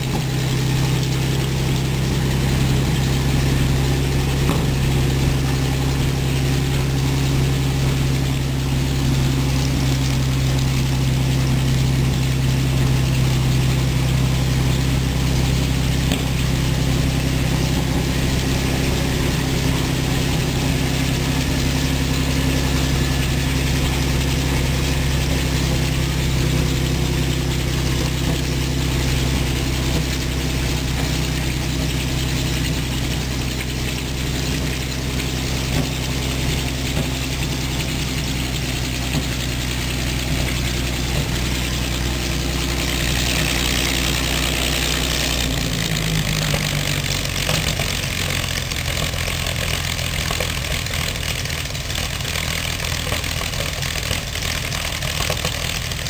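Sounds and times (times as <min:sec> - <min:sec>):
tank engine running: 0:00.0 - 0:56.0.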